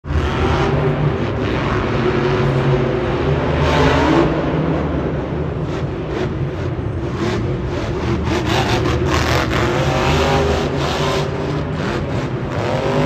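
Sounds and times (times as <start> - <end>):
monster truck engine revving: 0.1 - 13.0.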